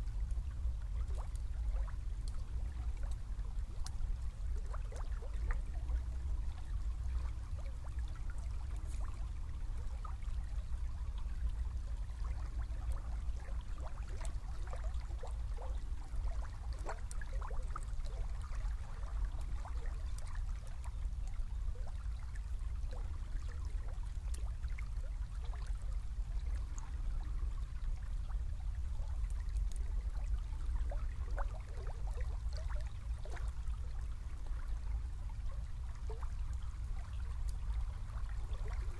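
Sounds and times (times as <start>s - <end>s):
steady low rumble: 0.0s - 38.9s
water gurgling and trickling: 0.0s - 38.9s.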